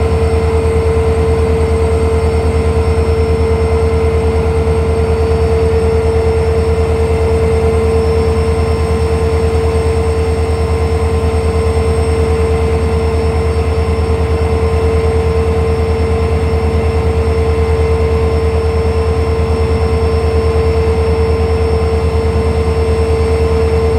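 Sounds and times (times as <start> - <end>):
diesel locomotive engine droning: 0.0 - 23.9.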